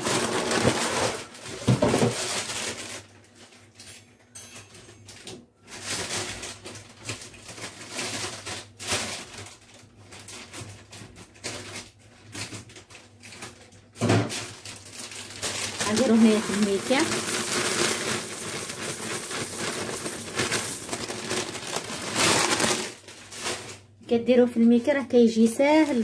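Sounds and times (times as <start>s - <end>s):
plastic bag crinkling: 0.0s - 4.2s, 5.0s - 24.1s, 24.7s - 26.0s.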